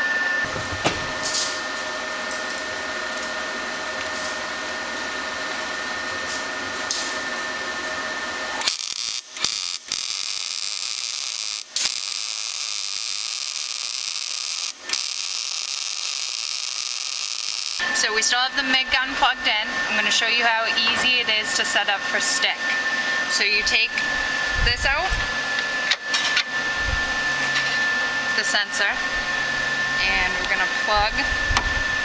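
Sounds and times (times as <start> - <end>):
welding arc crackling sizzle: 0.0 - 32.0
welding machine humming: 0.0 - 32.0.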